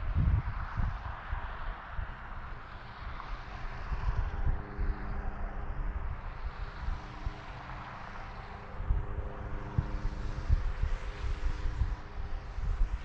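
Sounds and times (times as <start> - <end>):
highway traffic rushing: 0.0 - 13.0
wind buffeting microphone: 0.0 - 13.0.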